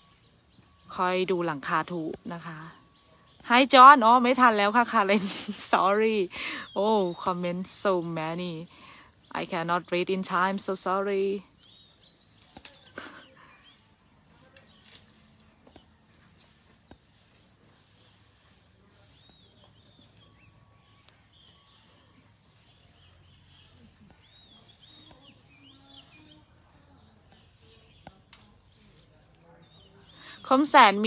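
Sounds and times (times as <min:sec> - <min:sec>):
faint bird chirps: 0:00.0 - 0:31.0
high insect hum: 0:00.0 - 0:31.0.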